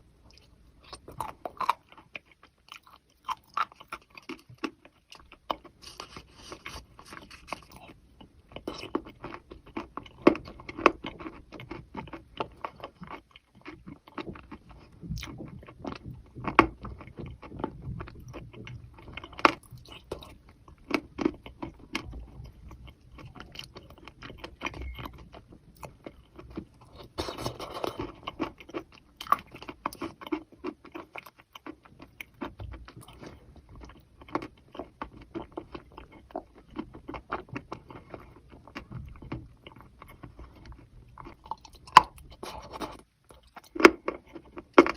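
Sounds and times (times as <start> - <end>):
person crunching and chewing chalk: 0.2 - 44.9.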